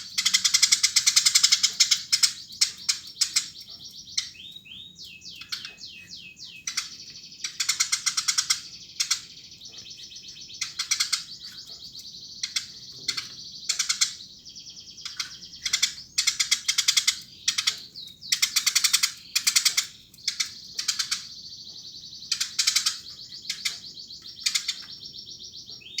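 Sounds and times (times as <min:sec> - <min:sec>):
sparrow chirping: 0:00.0 - 0:26.0.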